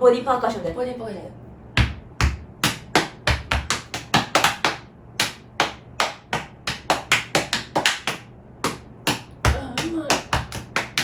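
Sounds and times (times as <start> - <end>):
hand slaps and claps: 1.8 - 11.0.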